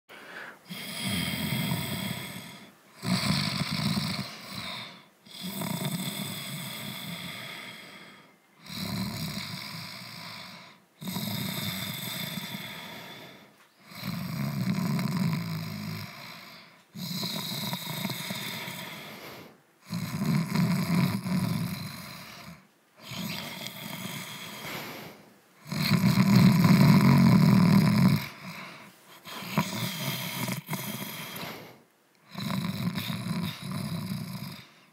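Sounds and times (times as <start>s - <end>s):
cat snoring: 0.2s - 34.9s.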